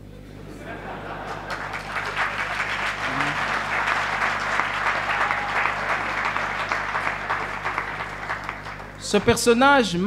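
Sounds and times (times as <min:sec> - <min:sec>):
audience applauding: 0:00.8 - 0:09.8.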